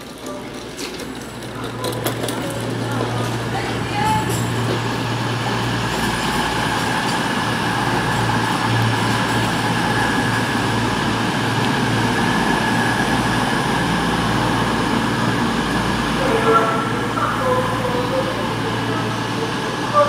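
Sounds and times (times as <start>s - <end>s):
train engine hum: 0.0s - 20.0s
wheels rumbling on track: 0.0s - 20.0s.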